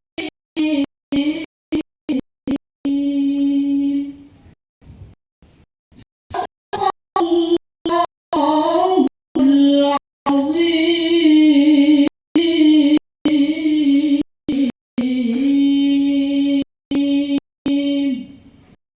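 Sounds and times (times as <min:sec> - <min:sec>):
woman reciting melodically: 0:00.2 - 0:04.3, 0:06.3 - 0:18.5.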